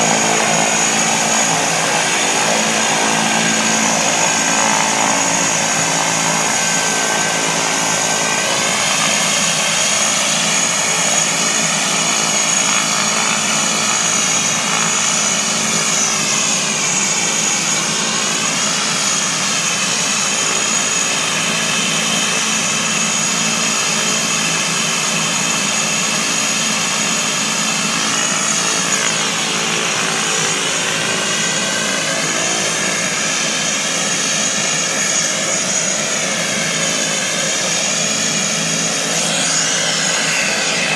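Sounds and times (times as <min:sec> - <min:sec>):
turboprop engines running: 0:00.0 - 0:40.9.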